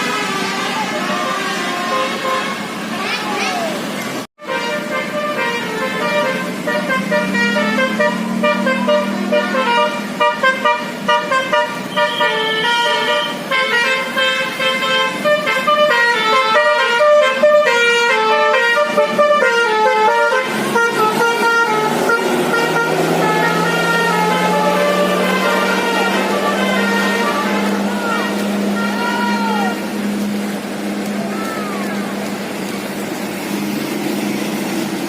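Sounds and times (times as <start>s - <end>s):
musical bus horn playing tune: 0.0s - 2.9s, 4.4s - 30.4s.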